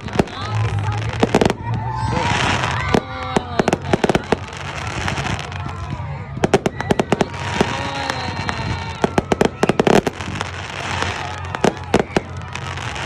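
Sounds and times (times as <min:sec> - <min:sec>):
fireworks cracks and bangs: 0:00.0 - 0:13.0.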